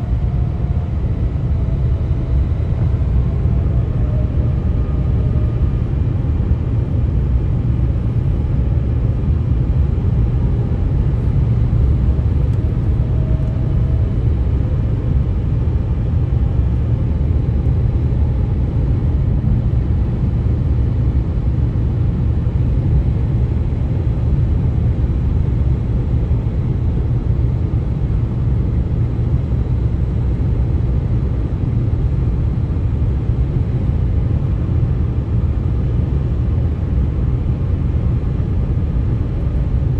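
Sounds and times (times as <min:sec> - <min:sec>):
highway traffic rumble: 0:00.0 - 0:39.9.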